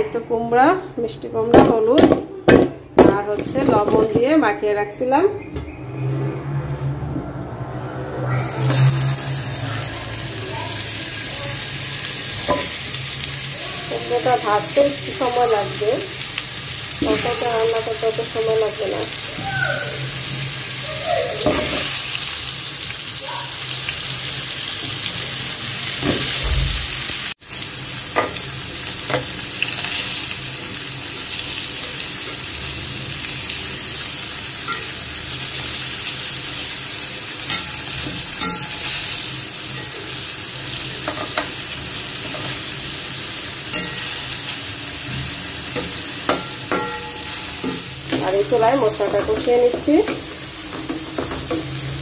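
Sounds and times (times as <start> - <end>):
food sizzling in oil: 8.4 - 52.0.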